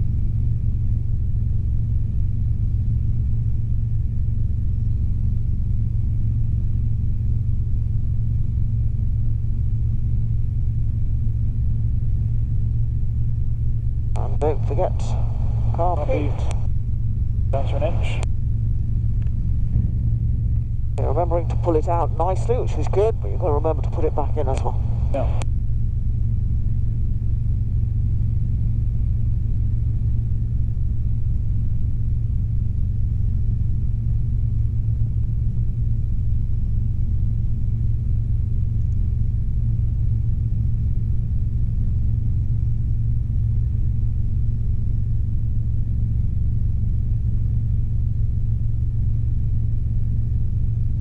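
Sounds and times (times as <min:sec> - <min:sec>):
helicopter engine and rotors droning: 0:00.0 - 0:51.0.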